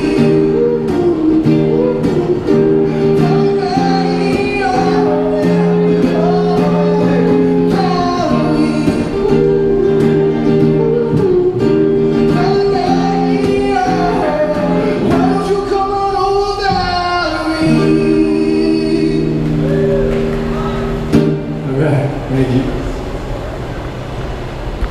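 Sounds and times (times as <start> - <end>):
man singing into a microphone: 0.0 - 20.0
acoustic guitar chords: 0.0 - 24.9.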